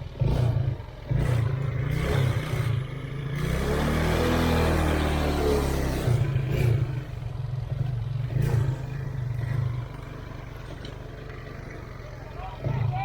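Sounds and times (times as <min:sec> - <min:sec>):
vehicle engine revving with clatter: 0:00.0 - 0:13.0.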